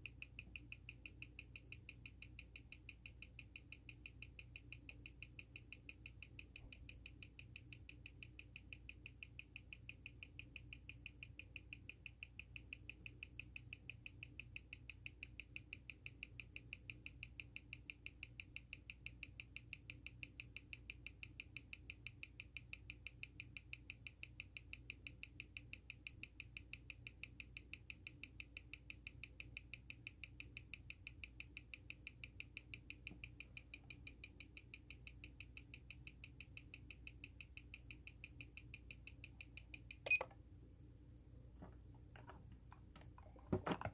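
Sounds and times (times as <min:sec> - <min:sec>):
watch ticking rapidly: 0:00.0 - 0:40.2.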